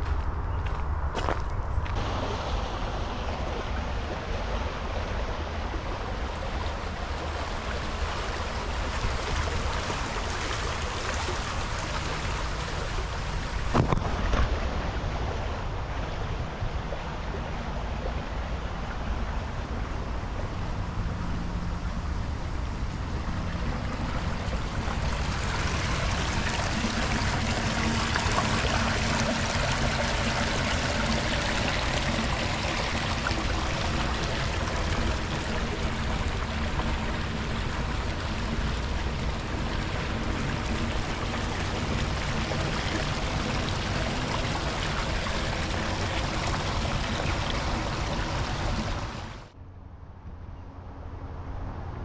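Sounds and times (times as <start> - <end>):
stream water rushing: 1.2 - 49.6.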